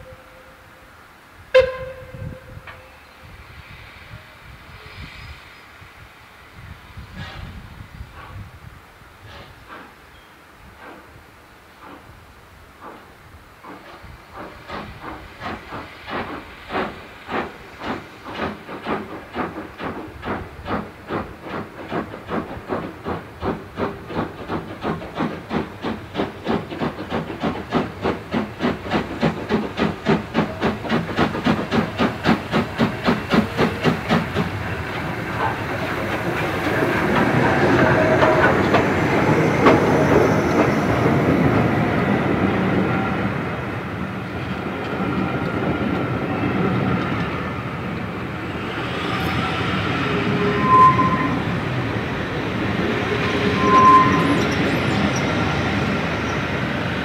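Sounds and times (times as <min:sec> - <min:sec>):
steam locomotive exhaust beats: 0:00.0 - 0:57.0
train wheels clicking over rail joints: 0:09.2 - 0:57.0.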